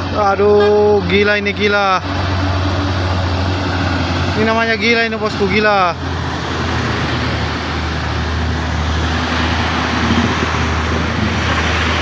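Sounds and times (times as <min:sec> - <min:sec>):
heavy vehicle engine droning: 0:00.0 - 0:12.0
tyre and road noise: 0:00.0 - 0:12.0.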